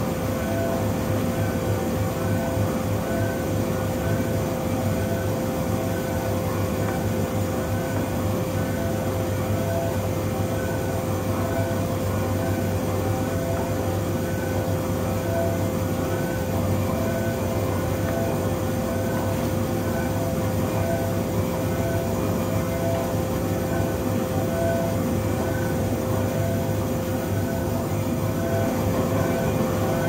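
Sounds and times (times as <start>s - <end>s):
high engine whine: 0.2s - 30.0s.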